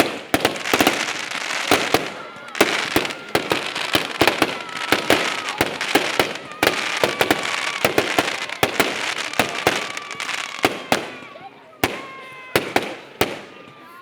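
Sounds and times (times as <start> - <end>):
faint fireworks whistles: 0.0 - 14.0
fireworks crackling hiss: 0.0 - 14.0
fireworks cracks and bangs: 0.0 - 14.0.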